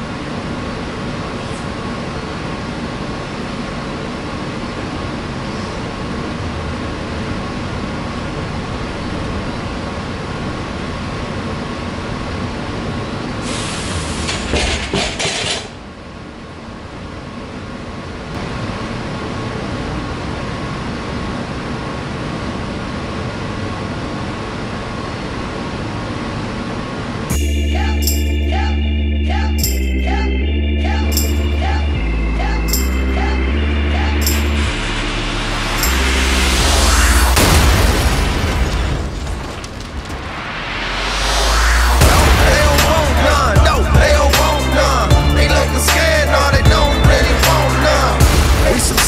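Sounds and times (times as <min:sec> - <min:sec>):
room hum: 0:00.0 - 0:49.0.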